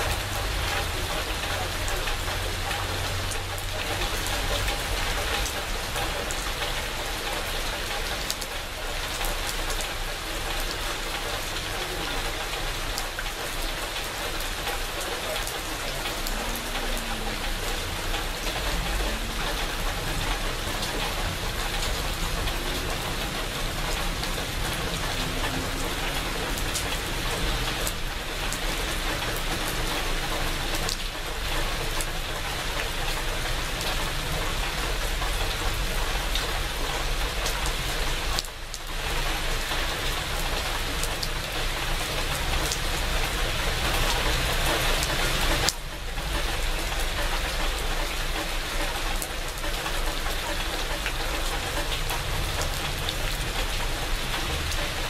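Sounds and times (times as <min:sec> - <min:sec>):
rain falling on leaves: 0:00.0 - 0:55.0
raindrops ticking: 0:00.0 - 0:55.0.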